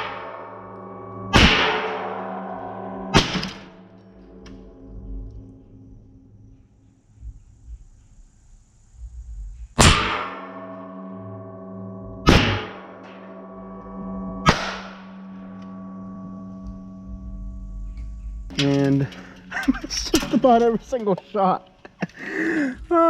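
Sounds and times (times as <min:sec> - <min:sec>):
sharp hits with ringing tone: 0:00.0 - 0:07.3, 0:09.8 - 0:21.2
steady musical drone: 0:00.0 - 0:23.0.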